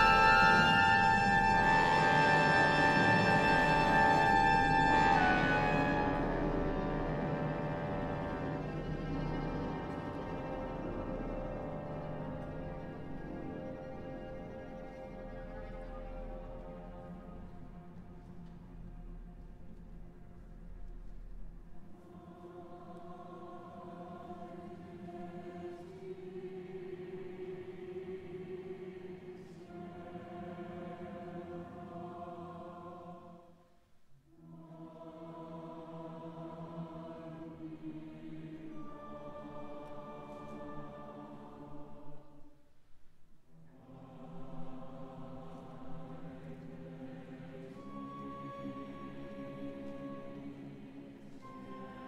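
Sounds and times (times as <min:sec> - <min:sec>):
choir and orchestra chords: 0:00.0 - 0:52.0.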